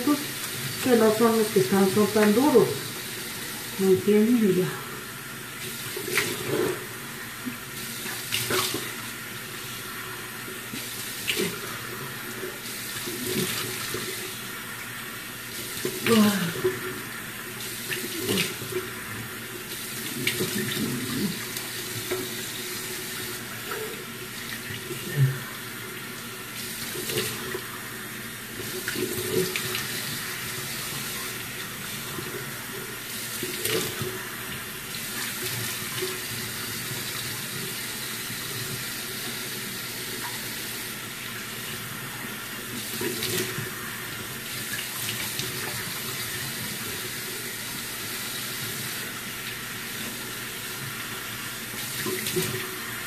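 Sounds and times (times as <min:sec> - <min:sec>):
sink tap running: 0:00.0 - 0:53.0.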